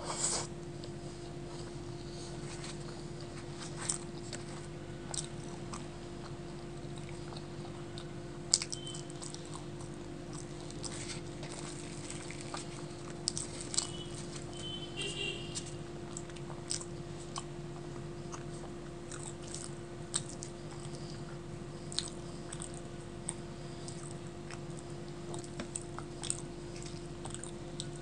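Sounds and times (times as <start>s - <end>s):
person chewing: 0.0s - 14.8s, 15.5s - 28.0s.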